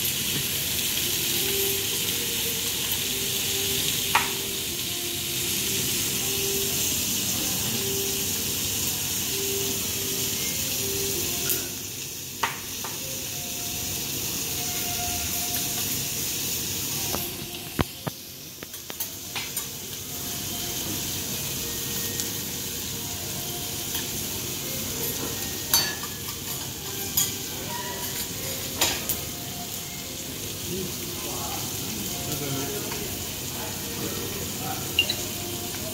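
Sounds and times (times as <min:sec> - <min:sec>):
steaks sizzling on griddle: 0:00.0 - 0:35.9.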